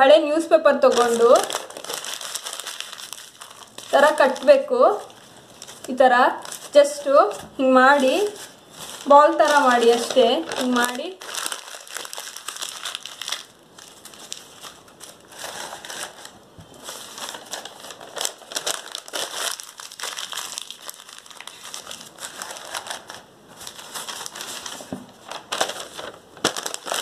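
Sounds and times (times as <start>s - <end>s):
newspaper being scrunched: 0.9s - 6.8s, 7.9s - 27.0s.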